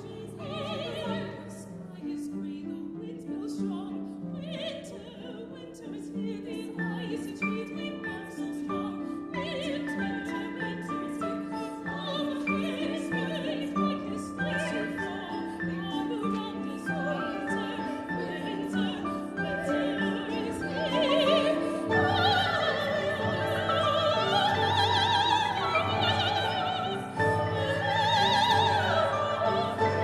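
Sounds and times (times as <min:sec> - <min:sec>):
woman singing opera: 0:00.0 - 0:30.0.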